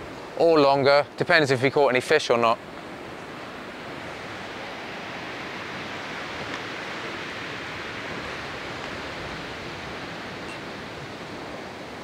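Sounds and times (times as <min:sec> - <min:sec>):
sea surf breaking: 0:00.0 - 0:12.0.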